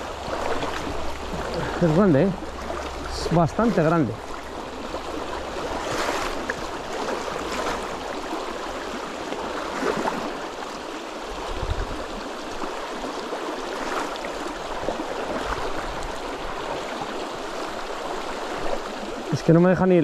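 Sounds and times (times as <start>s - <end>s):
river flowing over stones: 0.0s - 20.0s.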